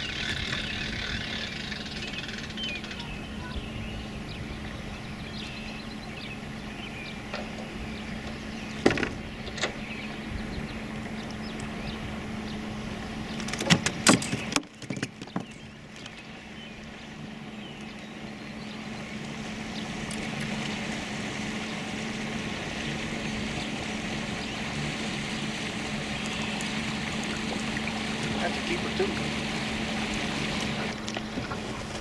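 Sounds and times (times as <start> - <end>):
boat motor humming: 0.0 - 32.0.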